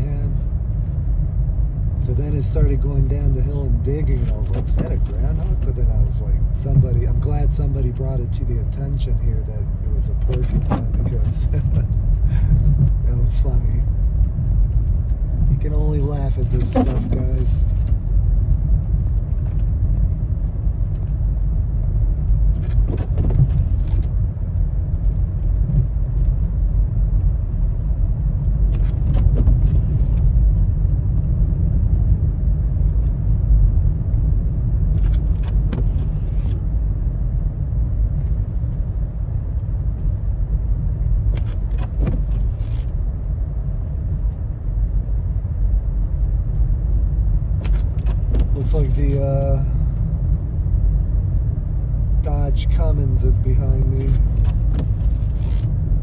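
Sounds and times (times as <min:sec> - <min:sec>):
engine and tyre rumble: 0:00.0 - 0:56.0.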